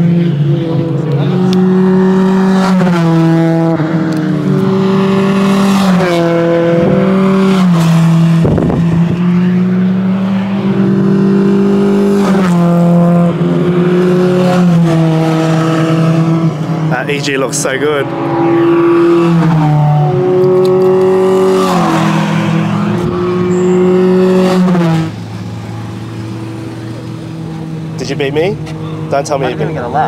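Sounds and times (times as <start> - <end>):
race car engines: 0.0 - 30.0.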